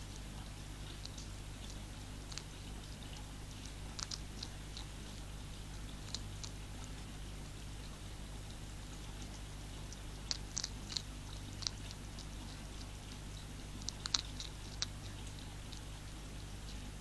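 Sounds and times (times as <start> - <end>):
hedgehog crunching food: 0.0 - 17.0.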